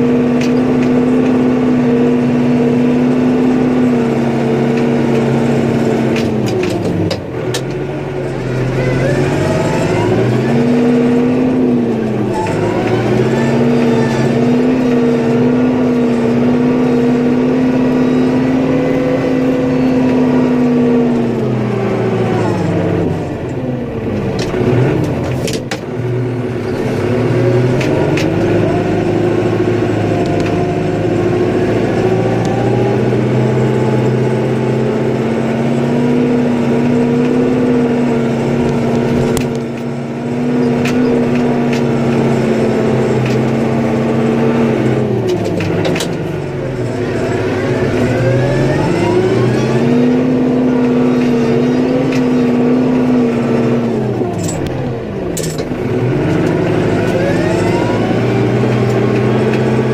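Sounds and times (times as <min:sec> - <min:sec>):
vehicle engine under load: 0:00.0 - 0:59.9.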